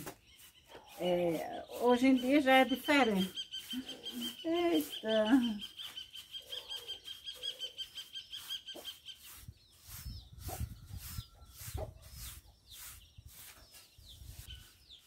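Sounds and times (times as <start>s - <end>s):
broom sweeping floor: 0.0s - 14.8s.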